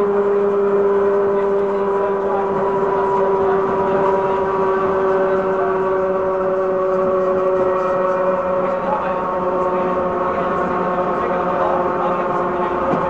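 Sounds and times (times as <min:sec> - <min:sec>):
electric motor whine: 0:00.0 - 0:13.0
electric train running: 0:00.0 - 0:13.0.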